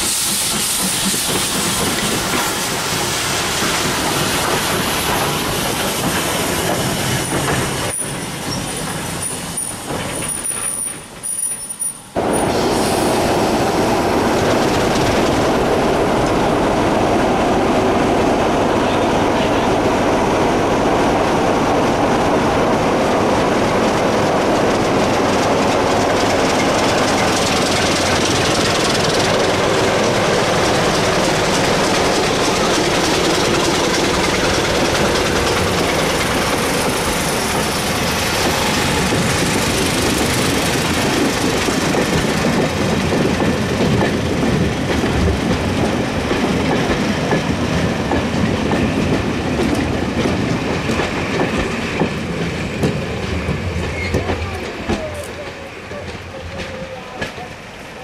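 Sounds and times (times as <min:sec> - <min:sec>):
train wheels clickety-clack: 0:00.0 - 0:19.6, 0:21.3 - 0:58.0
diesel locomotive engine: 0:00.0 - 0:58.0.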